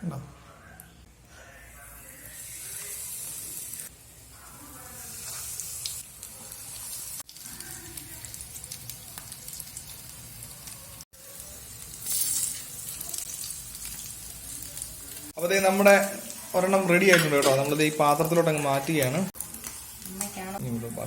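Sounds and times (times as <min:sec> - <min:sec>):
fish frying in hot oil: 0:02.3 - 0:21.0.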